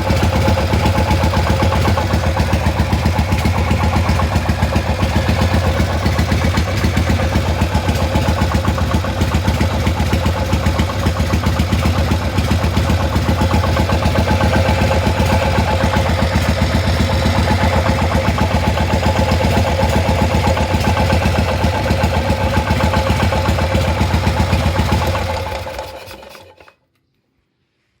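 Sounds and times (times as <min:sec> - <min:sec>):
motorcycle engine idling: 0:00.0 - 0:26.6
abnormal engine noise: 0:00.0 - 0:26.7
engine running down: 0:00.0 - 0:26.7.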